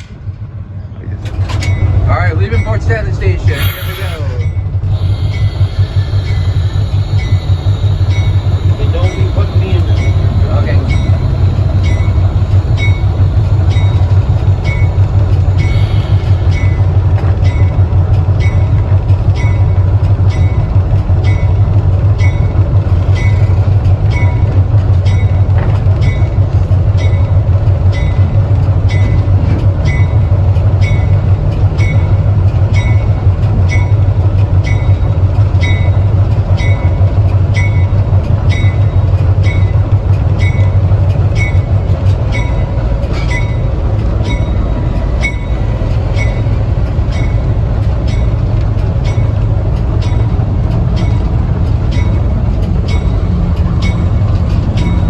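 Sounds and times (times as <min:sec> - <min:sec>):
rail clicks: 0:00.0 - 0:55.0
train rumbling on track: 0:00.0 - 0:55.0.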